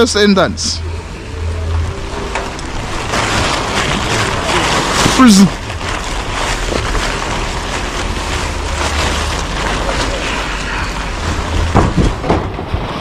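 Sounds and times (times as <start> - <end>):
rushing noise with low rumble: 0.0 - 13.0.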